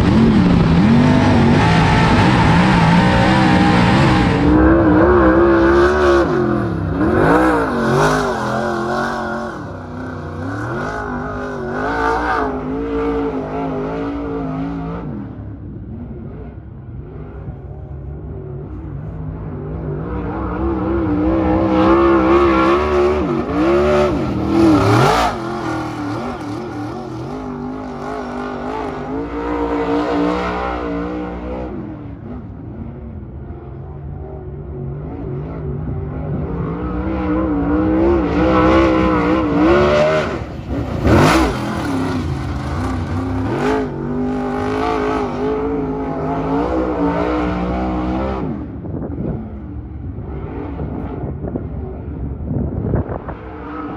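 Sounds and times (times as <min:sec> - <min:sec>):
race car engine at speed: 0:00.0 - 0:53.9.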